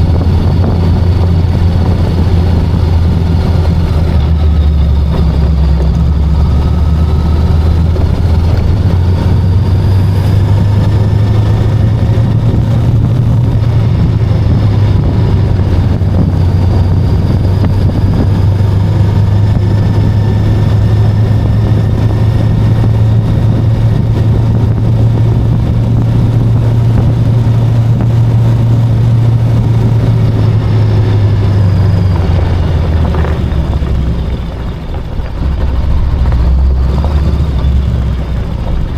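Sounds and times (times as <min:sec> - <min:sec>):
motorcycle engine running: 0:00.0 - 0:38.9
rush of wind noise: 0:00.0 - 0:38.9.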